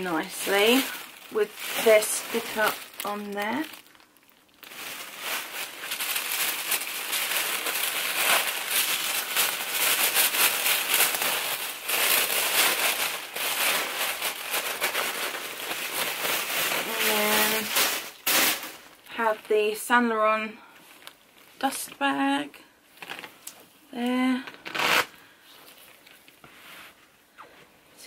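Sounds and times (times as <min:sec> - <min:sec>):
tissue paper crinkling: 0:00.0 - 0:19.8, 0:23.0 - 0:27.1.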